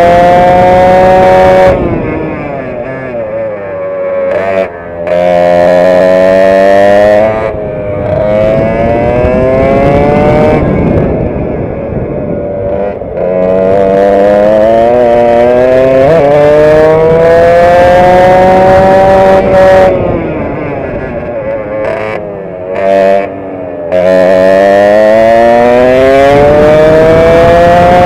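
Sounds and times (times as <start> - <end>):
kart engine at full throttle: 0.0 - 28.0.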